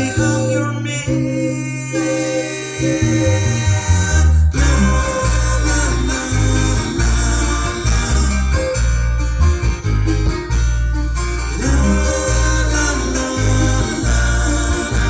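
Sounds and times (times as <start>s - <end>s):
heavy pulsing bass: 0.0s - 15.0s
plucked strings: 0.0s - 15.0s.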